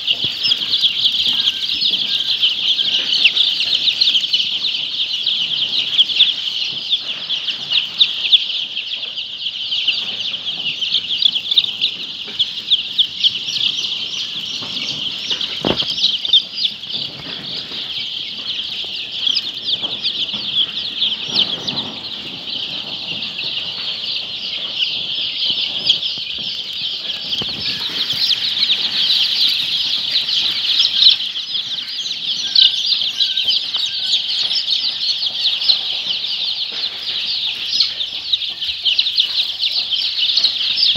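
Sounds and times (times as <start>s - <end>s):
poultry chirping and peeping: 0.0s - 40.9s.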